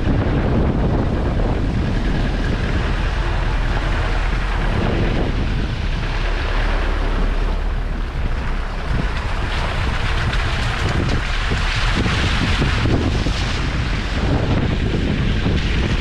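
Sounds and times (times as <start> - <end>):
engine driving slowly: 0.0 - 16.0
wind buffeting microphone: 0.0 - 16.0.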